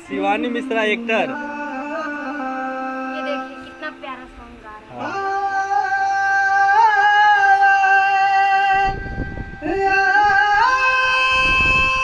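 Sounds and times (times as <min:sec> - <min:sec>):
man singing high held notes: 0:00.0 - 0:04.0, 0:04.8 - 0:12.0.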